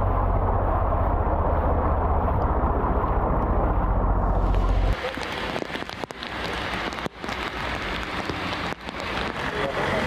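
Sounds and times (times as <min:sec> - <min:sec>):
rain falling on water: 0:00.0 - 0:10.0.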